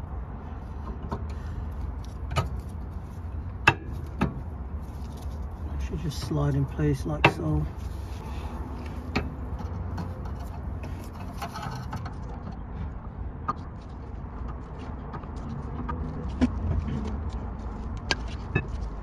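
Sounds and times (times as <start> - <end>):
brake pads clicking and scraping: 0.0 - 19.0.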